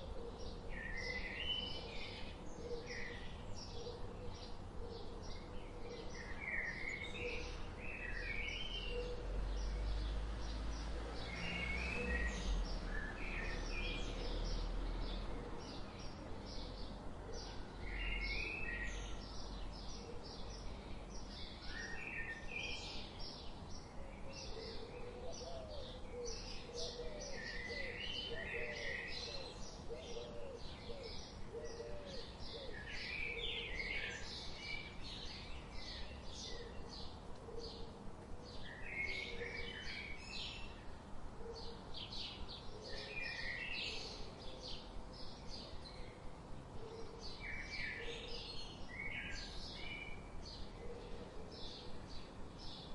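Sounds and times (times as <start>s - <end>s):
small birds chirping and singing: 0.0s - 52.9s.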